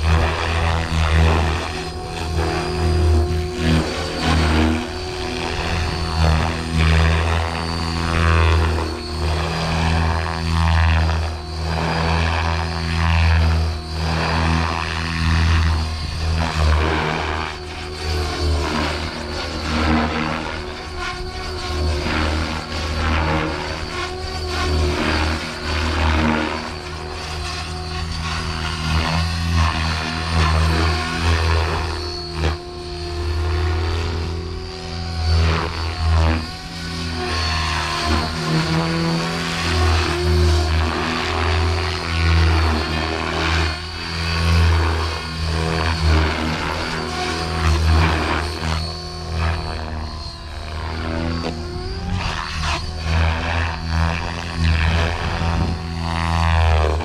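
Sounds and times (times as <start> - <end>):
electric motor whine: 0.0 - 57.0
helicopter rotor blades whooshing: 0.0 - 57.0.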